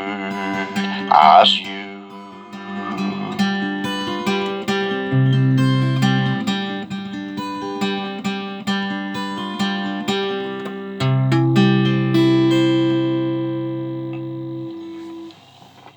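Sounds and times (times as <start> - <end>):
acoustic guitar playing: 0.0 - 15.9.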